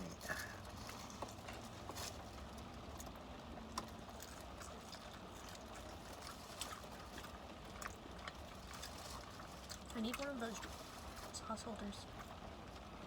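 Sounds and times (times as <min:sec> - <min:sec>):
person chewing crispy food: 0:00.0 - 0:11.4
low background hum: 0:00.0 - 0:13.0.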